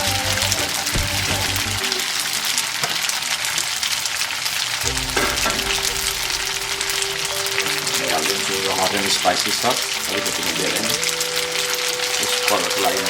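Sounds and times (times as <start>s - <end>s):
background music: 0.0s - 2.4s, 4.8s - 13.0s
noodles sizzling in hot oil: 0.0s - 13.0s.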